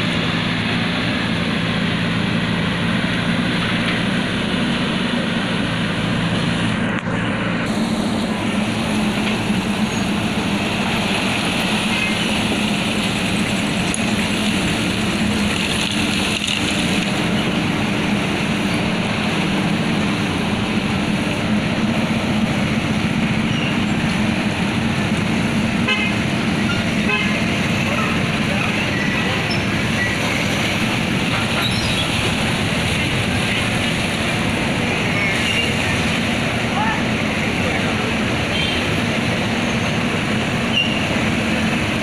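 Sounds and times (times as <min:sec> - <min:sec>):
diesel engine humming: 0:00.0 - 0:42.0.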